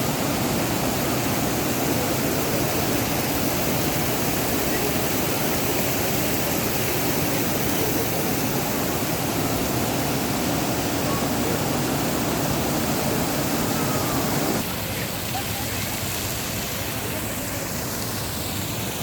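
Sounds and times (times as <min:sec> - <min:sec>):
water pouring in full flow: 0:00.0 - 0:19.0.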